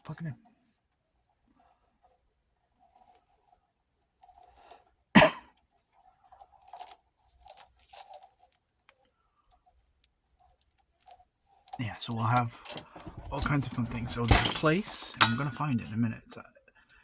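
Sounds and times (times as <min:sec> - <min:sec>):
rustling and scraping of cord: 0:00.6 - 0:16.0.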